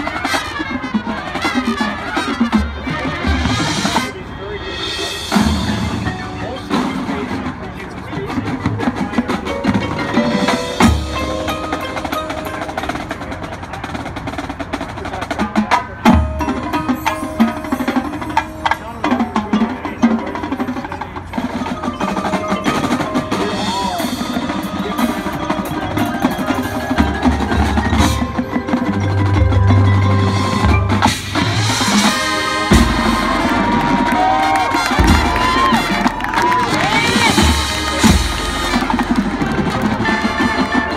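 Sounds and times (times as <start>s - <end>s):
marching band playing: 0.0s - 40.9s
mallet keyboards: 4.6s - 40.9s.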